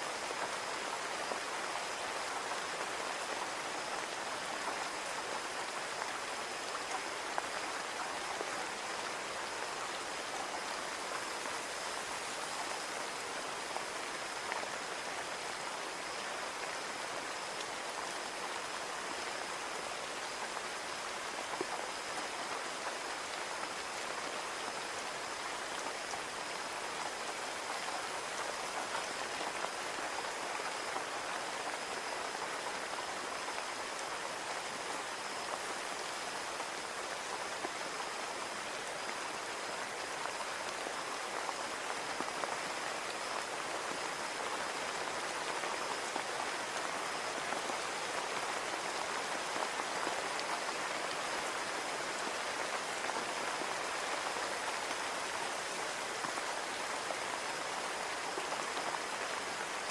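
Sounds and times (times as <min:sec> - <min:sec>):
rain on a window: 0:00.1 - 0:59.9.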